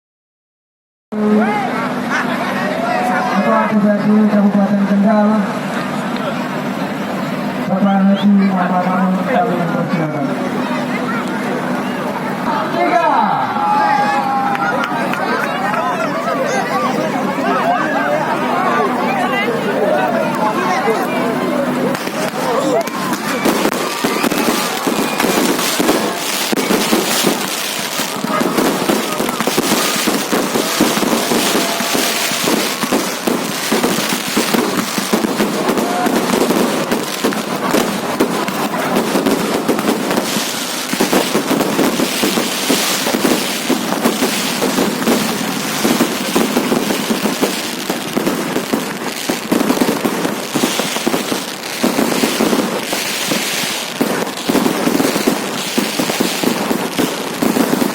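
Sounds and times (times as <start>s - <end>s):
firecrackers crackling bangs: 10.2s - 13.2s, 13.8s - 57.9s.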